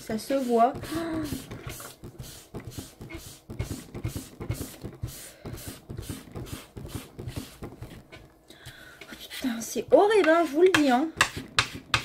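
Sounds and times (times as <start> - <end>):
tissue scrubbing pastel on paper: 0.0 - 8.1, 10.0 - 11.9.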